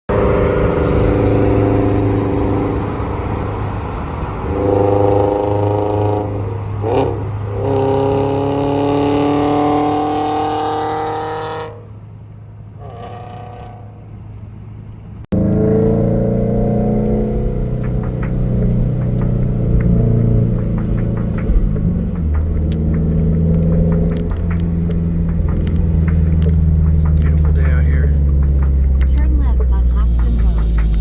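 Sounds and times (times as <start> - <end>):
car engine revving: 0.1 - 31.0.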